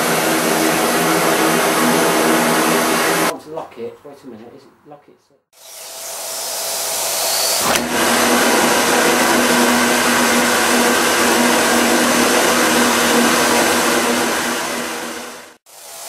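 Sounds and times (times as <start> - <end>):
vacuum cleaner whine: 0.0 - 3.3, 5.6 - 16.0.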